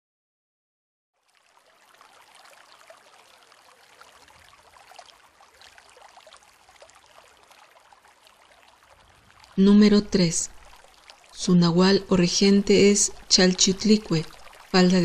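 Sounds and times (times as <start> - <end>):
faint water hiss with drips: 1.2 - 11.8, 12.6 - 15.0.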